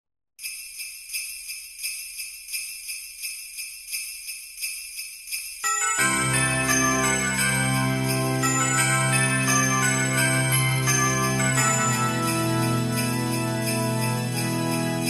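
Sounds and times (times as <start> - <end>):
jingle bells shaken: 0.4 - 15.0.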